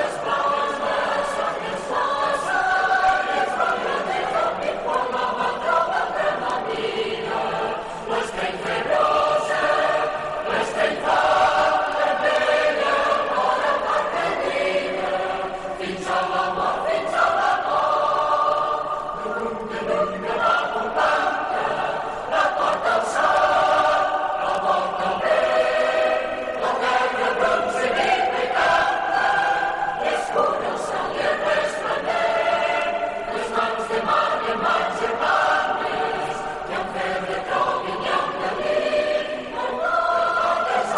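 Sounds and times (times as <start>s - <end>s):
crowd singing together: 0.0s - 40.9s.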